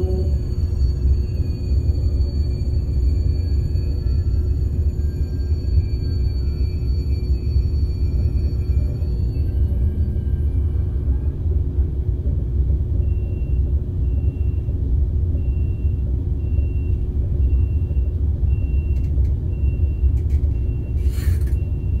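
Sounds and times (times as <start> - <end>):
train rumble in cabin: 0.0 - 22.0.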